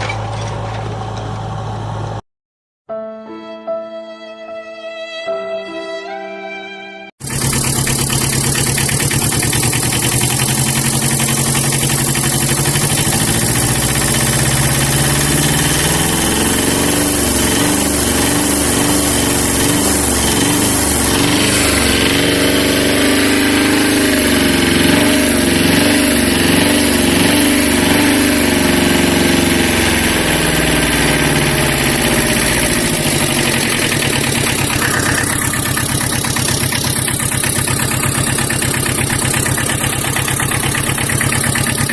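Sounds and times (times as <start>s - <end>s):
vehicle engine revving: 7.2s - 41.9s.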